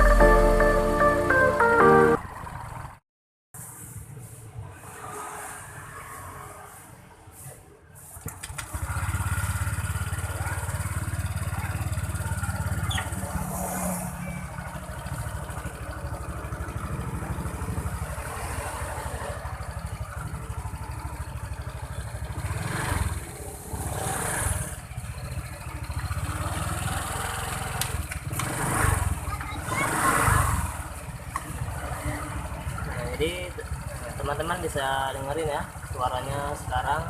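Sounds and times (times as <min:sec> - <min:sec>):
scooter engine starting and running: 0:00.0 - 0:03.0, 0:08.1 - 0:37.0.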